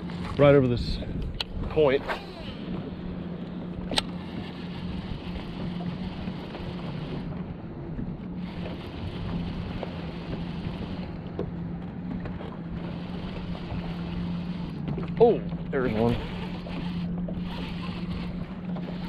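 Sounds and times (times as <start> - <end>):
steady low hum: 0.0 - 19.0
wind buffeting the microphone: 0.0 - 19.0.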